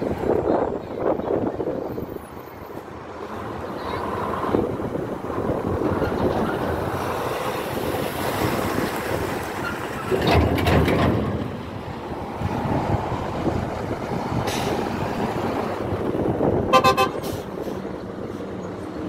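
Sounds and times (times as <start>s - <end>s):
traffic rushing: 0.0s - 19.0s.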